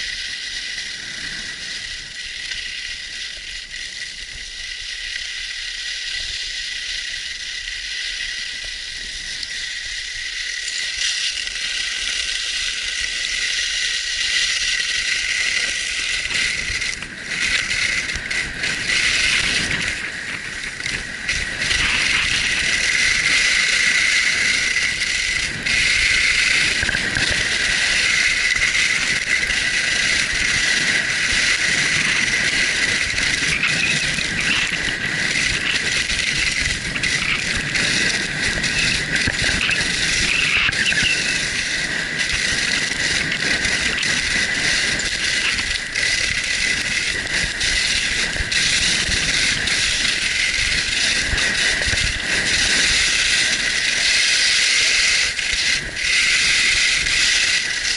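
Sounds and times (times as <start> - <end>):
skis scraping on snow: 0.0 - 57.9
wind rumbling on microphone: 0.0 - 57.9.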